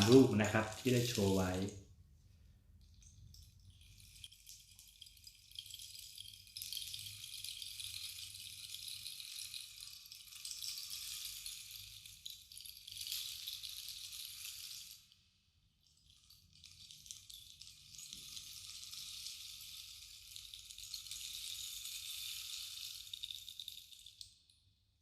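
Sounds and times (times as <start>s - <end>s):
rainstick trickling patter: 0.0s - 1.9s, 2.7s - 24.6s.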